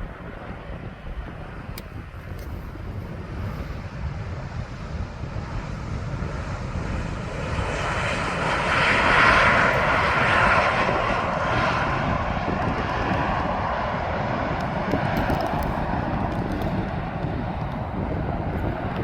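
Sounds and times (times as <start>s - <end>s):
jet passing low: 0.0s - 19.0s.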